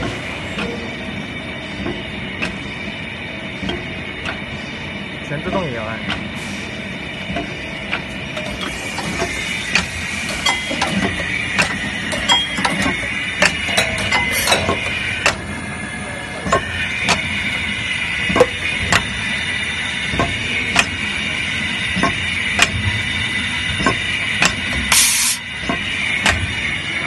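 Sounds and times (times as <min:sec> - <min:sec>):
machine mechanical whine: 0:00.0 - 0:27.0.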